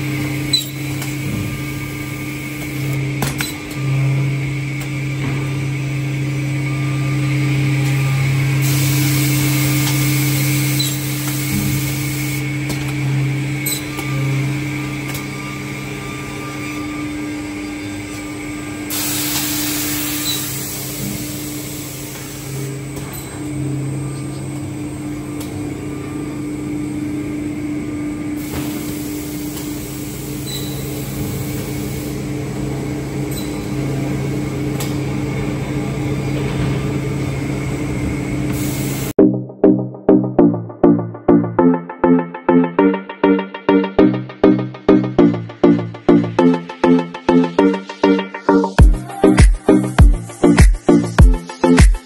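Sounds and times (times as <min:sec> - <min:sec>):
machine humming: 0:00.0 - 0:52.0.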